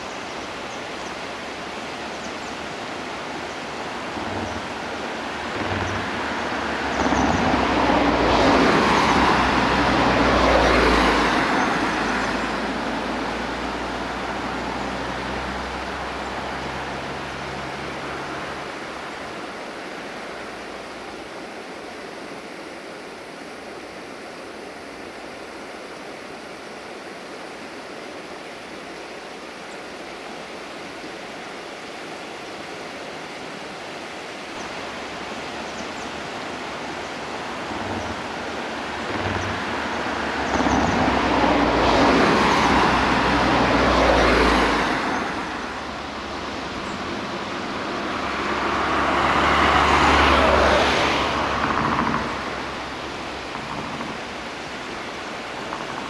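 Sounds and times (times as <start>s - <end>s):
road vehicles passing: 0.0s - 22.6s, 29.6s - 56.0s.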